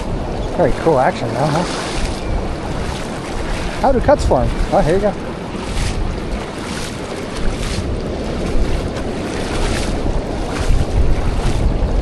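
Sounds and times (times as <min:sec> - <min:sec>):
surf washing over sand: 0:00.0 - 0:12.0
wind buffeting microphone: 0:00.0 - 0:12.0.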